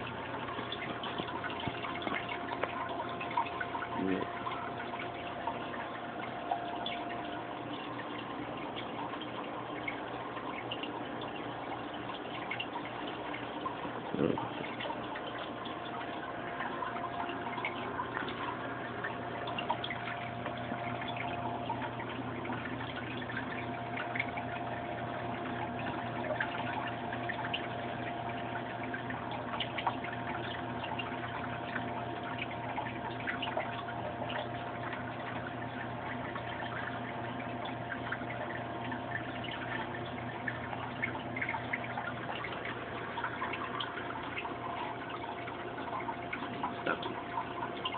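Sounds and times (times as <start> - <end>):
aquarium pump hum: 0.0 - 47.9
water bubbling and trickling: 0.0 - 47.9.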